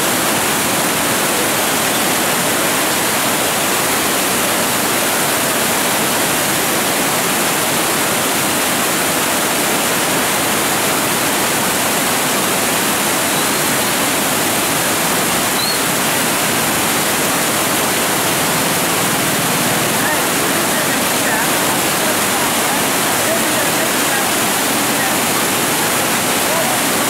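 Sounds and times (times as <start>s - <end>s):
water rushing over weir: 0.0s - 27.0s.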